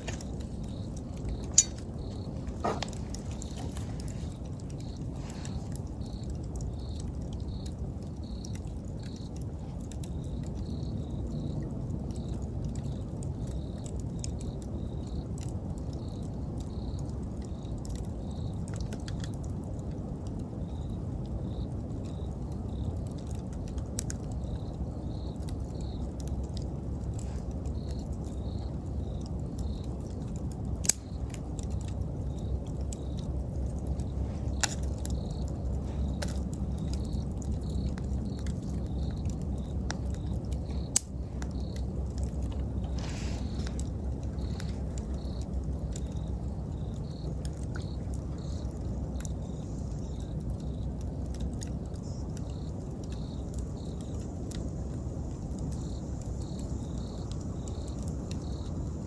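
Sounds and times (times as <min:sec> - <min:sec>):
insect chirping: 0:00.0 - 0:59.0
wood fire crackling and popping: 0:00.0 - 0:59.0.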